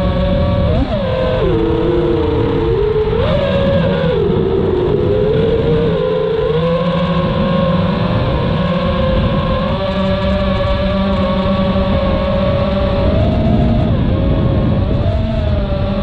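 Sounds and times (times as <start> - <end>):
drone motors and propellers whining: 0.0 - 16.0.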